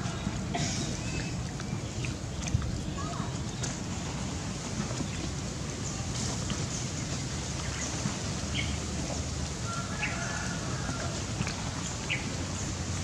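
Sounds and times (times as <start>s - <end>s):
steady noisy hiss: 0.0s - 13.0s.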